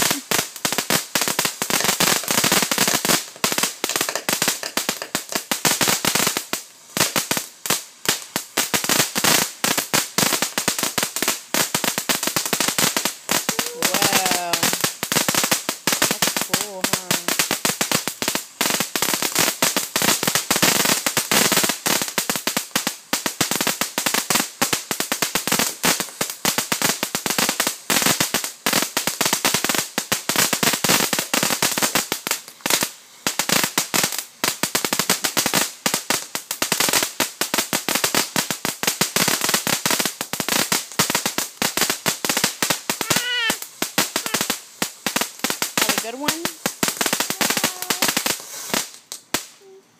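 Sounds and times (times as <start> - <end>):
firework fountain crackling hiss: 0.0 - 49.8.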